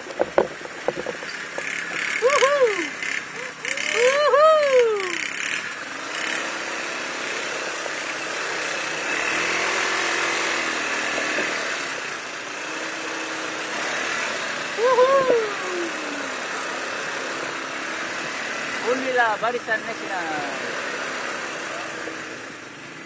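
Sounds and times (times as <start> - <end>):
quad bike engines running: 0.0 - 23.0.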